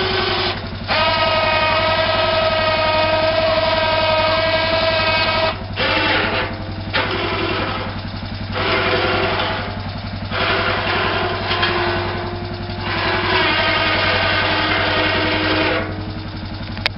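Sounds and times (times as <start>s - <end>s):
atv engine idling: 0.0s - 16.9s.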